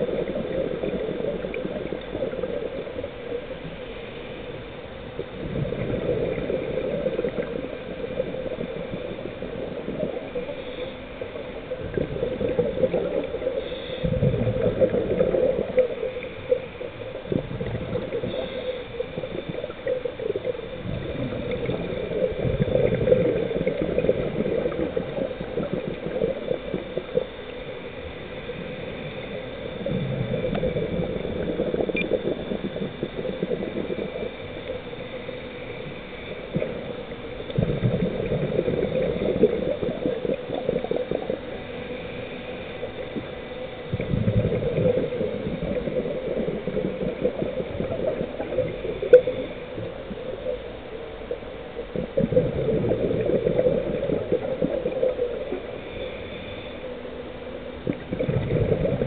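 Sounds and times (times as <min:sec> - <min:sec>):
underwater bubbles gurgling: 0:00.0 - 0:59.0.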